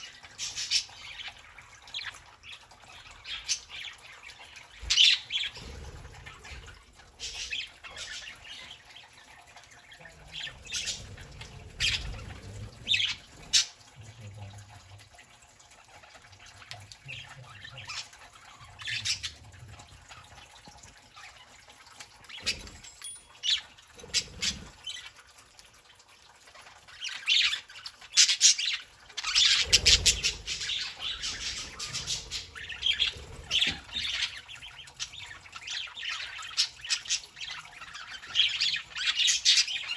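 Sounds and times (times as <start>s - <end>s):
budgerigars chirping and squawking: 0.0s - 14.7s, 16.0s - 25.2s, 26.6s - 39.9s.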